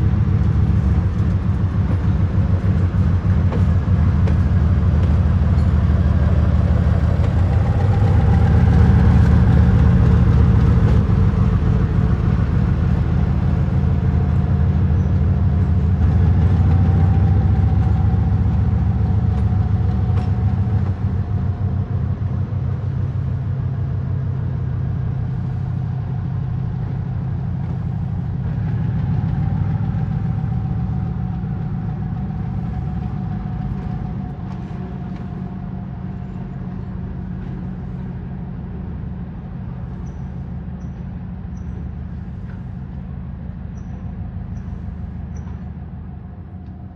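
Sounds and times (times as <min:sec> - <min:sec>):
diesel locomotive engine throbbing: 0:00.0 - 0:46.9.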